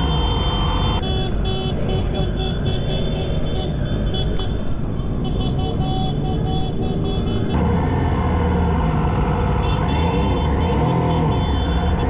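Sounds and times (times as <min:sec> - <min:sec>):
horns beeping: 0:00.0 - 0:07.6, 0:09.5 - 0:12.0.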